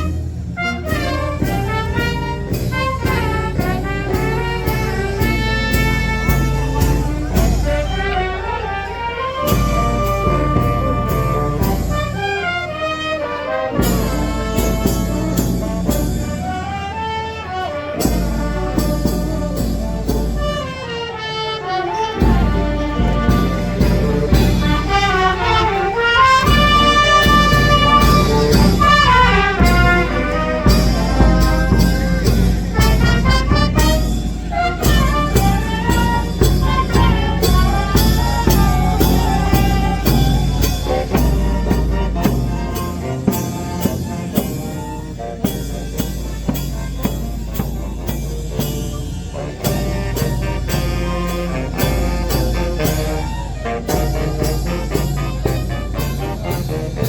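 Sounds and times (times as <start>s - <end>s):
steady drumming: 0.0s - 21.0s, 22.2s - 57.0s
brass melody: 0.0s - 57.0s.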